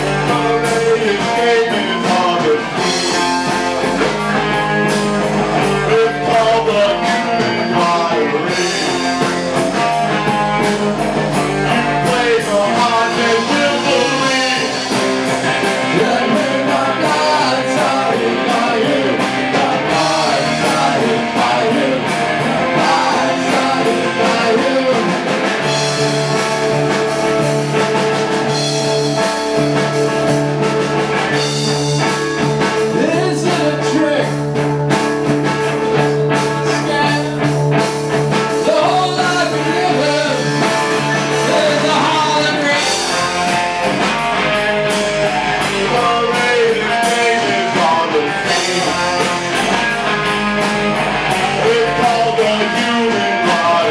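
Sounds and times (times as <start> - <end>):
electric bass: 0.0 - 53.9
electric guitar: 0.0 - 53.9.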